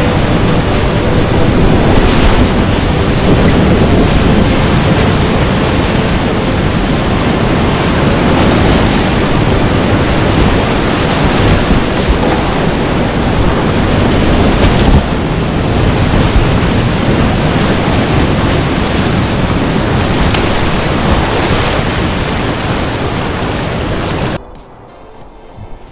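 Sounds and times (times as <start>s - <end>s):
whitewater rushing: 0.0s - 24.4s.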